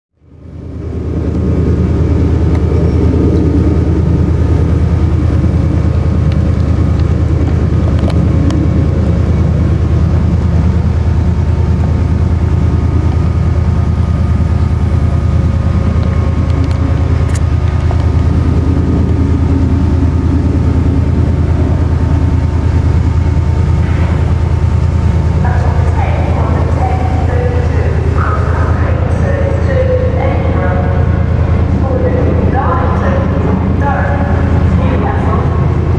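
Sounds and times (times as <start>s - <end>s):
diesel train engines rumbling: 0.2s - 35.9s
steady hum: 0.2s - 35.9s.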